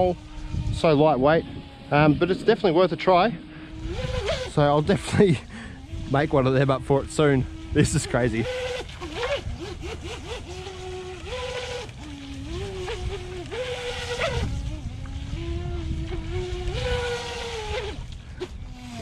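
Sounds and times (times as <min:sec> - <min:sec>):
rc jet boat motor whine: 0:00.0 - 0:19.0.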